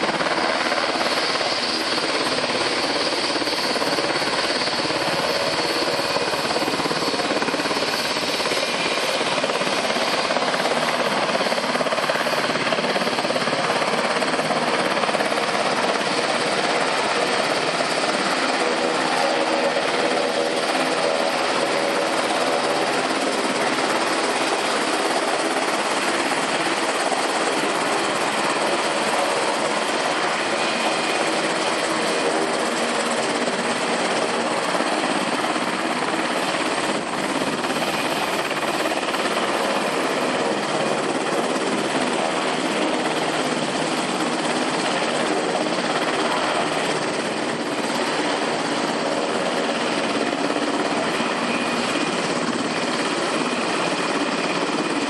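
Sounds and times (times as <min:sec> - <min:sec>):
helicopter engines and rotors running: 0:00.0 - 0:55.0.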